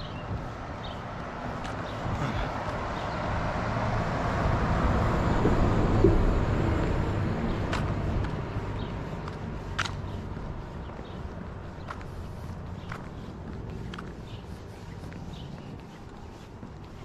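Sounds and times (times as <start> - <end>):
bus driving past: 0.0 - 17.0.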